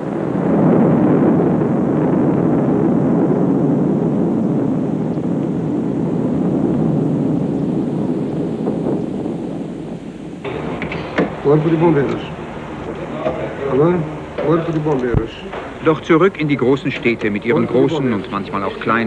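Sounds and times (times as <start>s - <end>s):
low roar of burning fireball: 0.0s - 16.5s.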